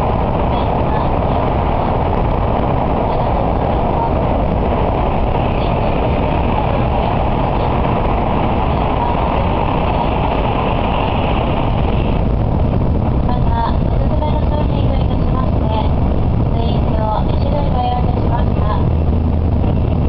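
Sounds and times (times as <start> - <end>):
train running through tunnel: 0.0 - 20.0.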